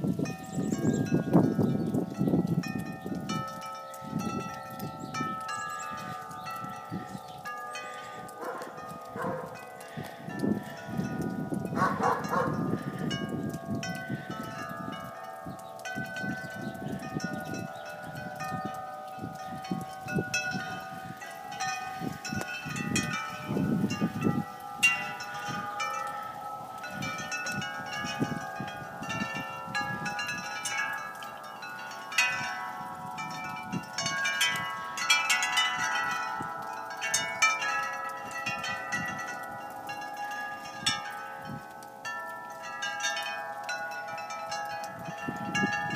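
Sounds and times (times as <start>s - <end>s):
wind chimes ringing: 0.0s - 45.9s.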